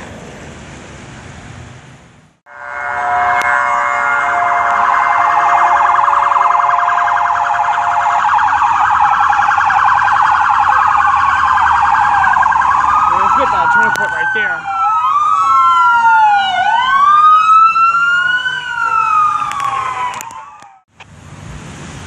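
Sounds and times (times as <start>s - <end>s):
police siren: 2.5s - 20.9s.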